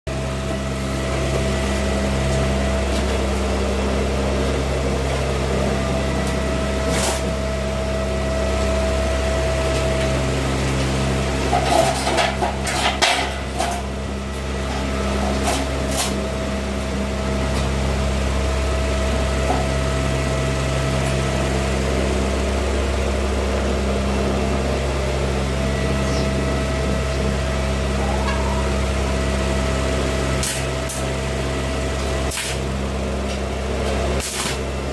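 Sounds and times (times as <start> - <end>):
steady machine hum: 0.1 - 20.6, 21.6 - 33.8.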